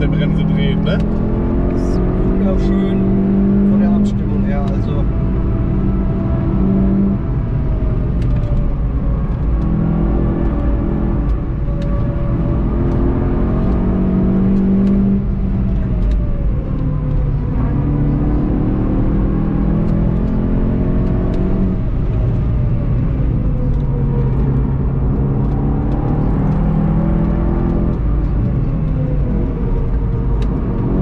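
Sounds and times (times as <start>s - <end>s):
car engine accelerating: 0.0s - 31.0s
tyre and road rumble: 0.0s - 31.0s.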